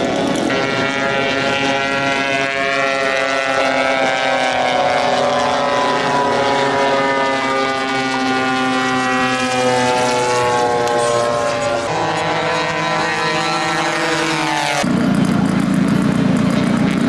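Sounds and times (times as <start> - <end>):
model airplane engine and propeller: 0.0 - 17.0.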